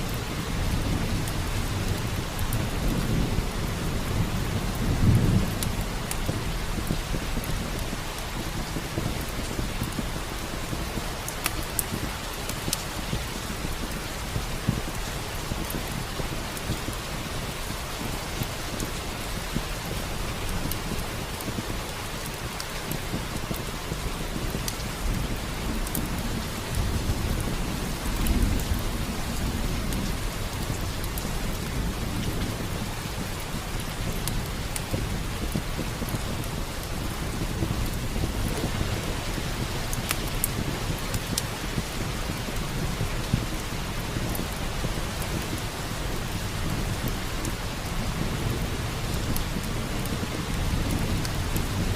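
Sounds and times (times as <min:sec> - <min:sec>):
low rolling thunder: 0:00.0 - 0:51.9
steady rain: 0:00.0 - 0:51.9
wood fire crackling: 0:00.0 - 0:51.9.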